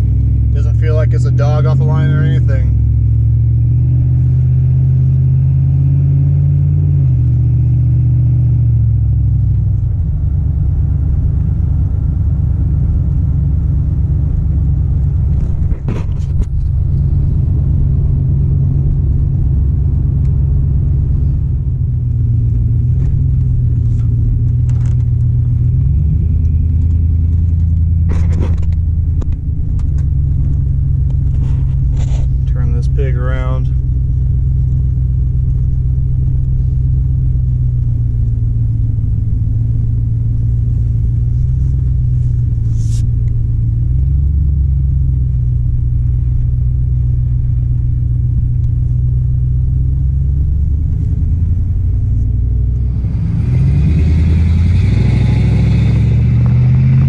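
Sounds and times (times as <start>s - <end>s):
truck engine drone from inside: 0.0s - 57.0s.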